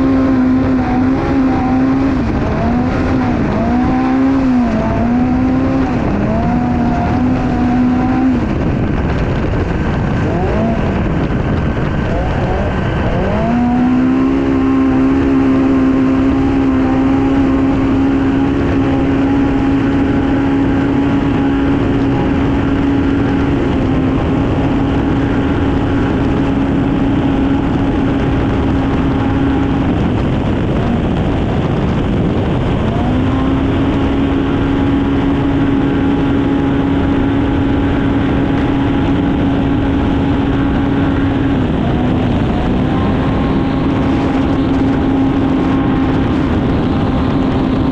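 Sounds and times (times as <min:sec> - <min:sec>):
race vehicle engine revving: 0:00.0 - 0:47.9
wind noise: 0:00.0 - 0:47.9.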